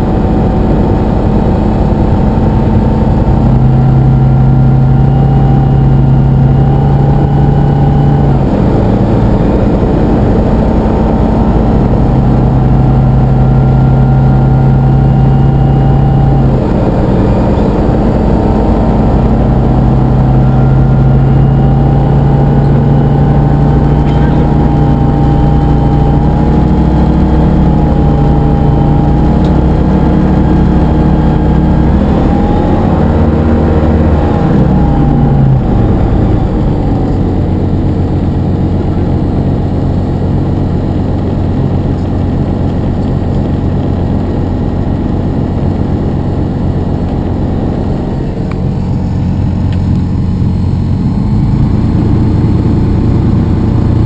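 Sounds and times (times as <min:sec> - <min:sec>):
light aircraft engine and propeller: 0:00.0 - 0:54.0.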